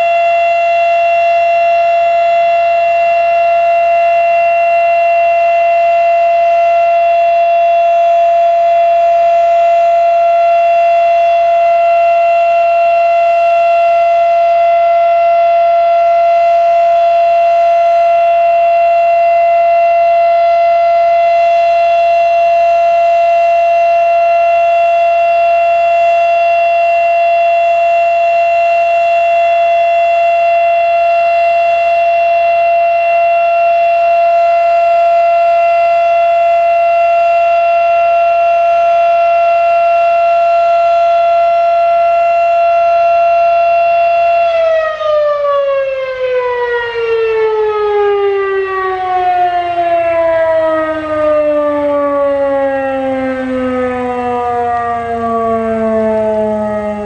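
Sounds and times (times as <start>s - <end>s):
civil defense siren: 0.0s - 57.0s.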